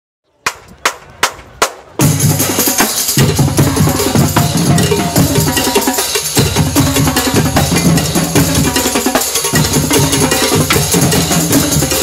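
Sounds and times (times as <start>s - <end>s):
drums: 0.4s - 12.0s
marching band playing: 0.9s - 12.0s
brass: 2.0s - 12.0s.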